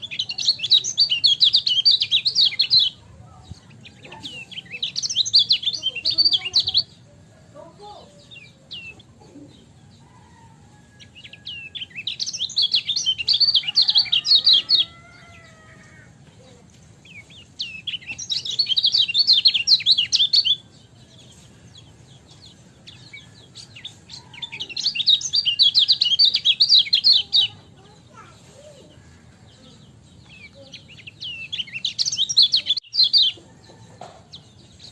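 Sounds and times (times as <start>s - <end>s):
bird chattering song: 0.0s - 34.9s.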